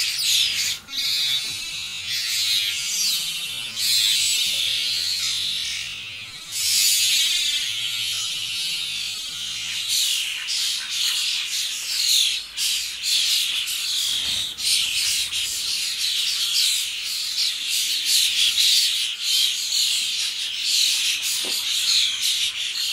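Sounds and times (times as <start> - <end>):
starlings screeching: 0.0 - 22.9.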